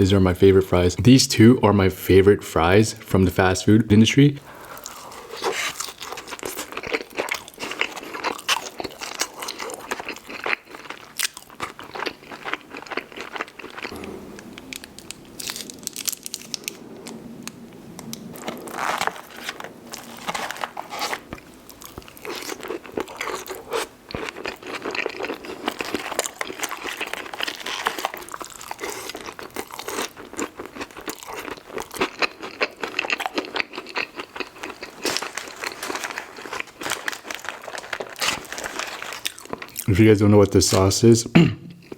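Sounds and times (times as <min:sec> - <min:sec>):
person chewing food: 0:04.4 - 0:39.9, 0:41.5 - 0:41.9.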